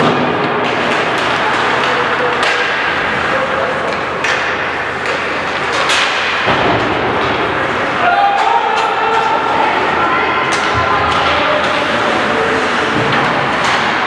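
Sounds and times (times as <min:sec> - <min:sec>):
crowd voices: 0:00.0 - 0:14.0
hockey sticks and puck clacking: 0:00.0 - 0:14.0.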